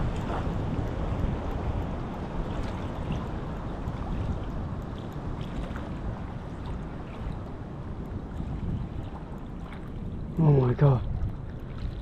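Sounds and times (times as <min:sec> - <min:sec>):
faint water ticks: 0:00.0 - 0:12.0
wind rumbling on microphone: 0:00.0 - 0:12.0.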